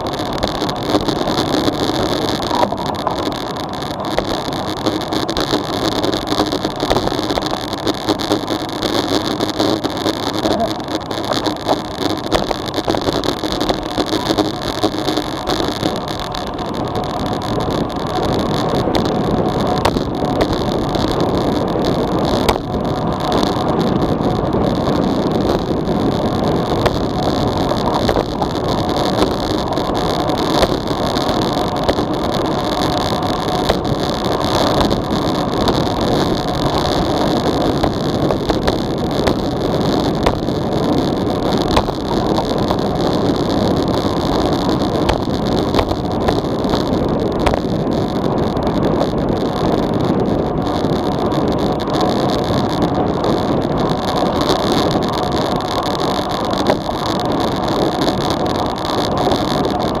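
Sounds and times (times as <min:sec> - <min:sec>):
tyre-on-road noise: 0:00.0 - 1:00.0.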